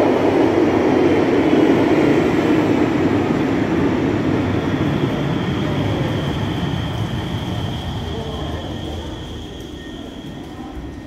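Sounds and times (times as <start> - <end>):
light-rail train rumbling: 0.0 - 11.0.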